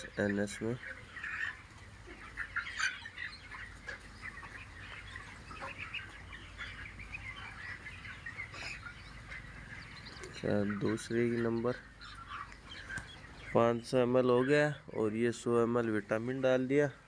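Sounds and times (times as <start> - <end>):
chicks chirping and clucking: 0.0 - 17.0.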